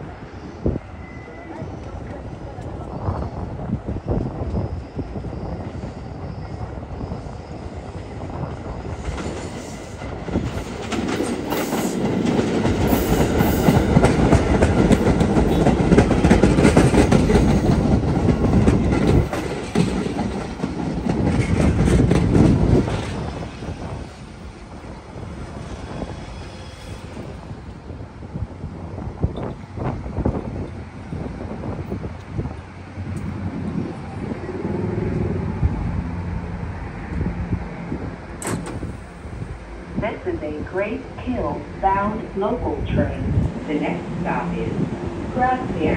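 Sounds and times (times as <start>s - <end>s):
subway train rumbling: 0.0s - 45.9s.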